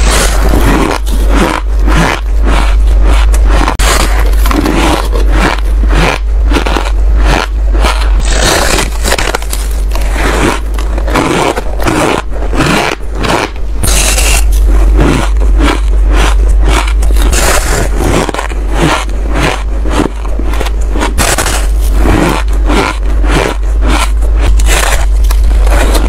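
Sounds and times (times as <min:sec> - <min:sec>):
ice crunching being chewed: 0:00.0 - 0:26.0.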